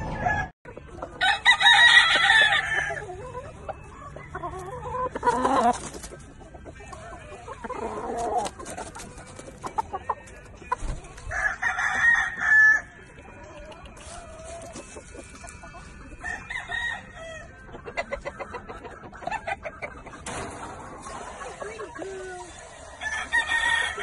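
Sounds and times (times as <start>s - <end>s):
roosters crowing: 0.0s - 0.5s, 1.1s - 13.0s, 14.0s - 18.2s, 19.3s - 24.0s.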